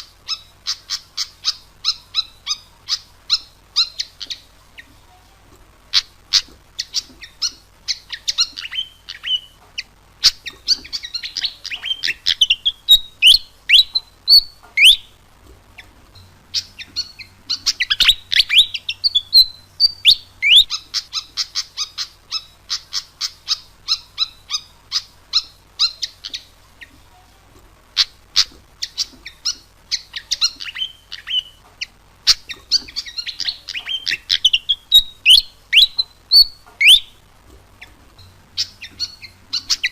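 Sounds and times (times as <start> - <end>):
bird chirping and whistling: 0.3 - 4.5, 6.0 - 9.6, 10.2 - 15.2, 16.5 - 26.5, 28.0 - 31.6, 32.3 - 37.2, 38.6 - 39.9.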